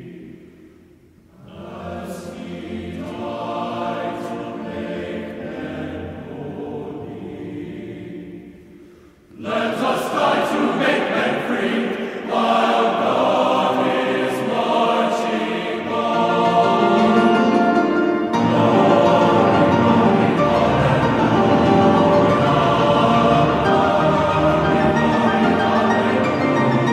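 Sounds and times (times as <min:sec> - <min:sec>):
choral singing: 0:00.0 - 0:00.7, 0:01.3 - 0:26.9.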